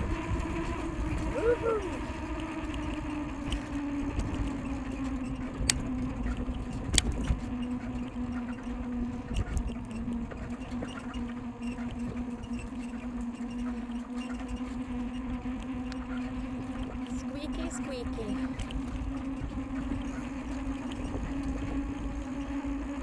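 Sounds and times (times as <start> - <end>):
wind rumbling on microphone: 0.0 - 13.3, 14.5 - 23.0
bicycle whine: 0.0 - 23.0.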